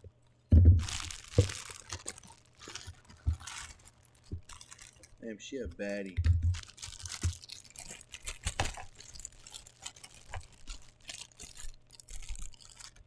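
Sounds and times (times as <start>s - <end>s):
packaging rustling: 0.5s - 13.0s.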